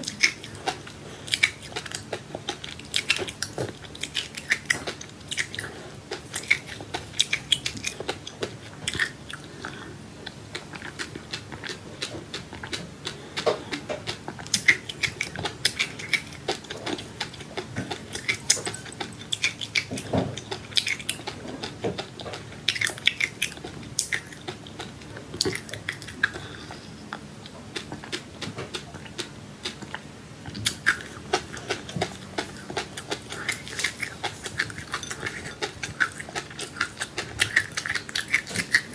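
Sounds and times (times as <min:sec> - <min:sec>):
biting and chewing: 0:00.0 - 0:38.9.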